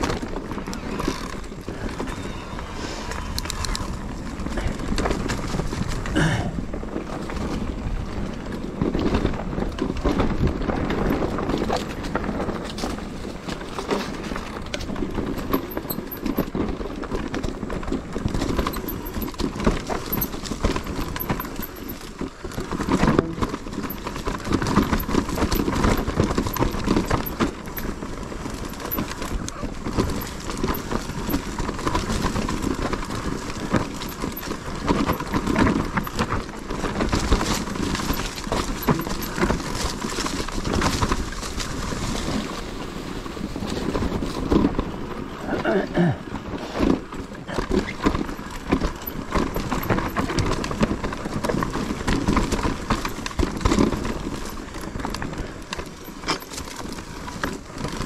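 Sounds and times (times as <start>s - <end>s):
mountain bike rattling on trail: 0.0s - 58.0s.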